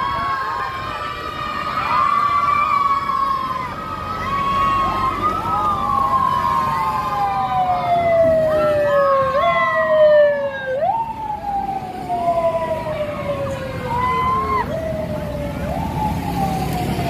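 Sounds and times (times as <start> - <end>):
hum of passing vehicles: 0.0 - 17.0
vehicle sirens wailing: 0.0 - 17.0.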